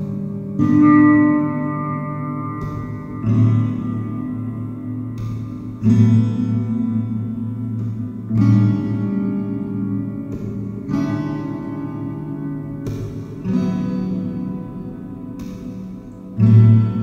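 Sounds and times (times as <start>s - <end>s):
instrumental music with sustained chords: 0.0s - 17.0s.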